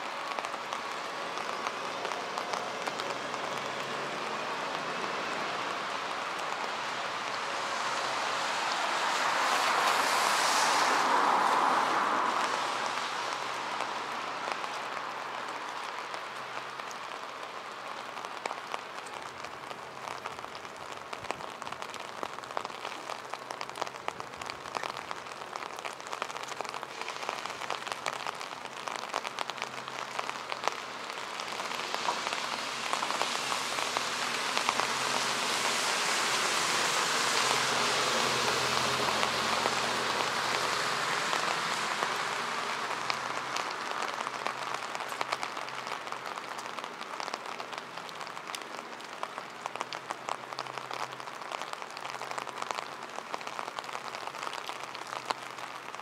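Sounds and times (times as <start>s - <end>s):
patter of nearby raindrops: 0.0s - 56.0s
rain falling on streets: 0.0s - 56.0s.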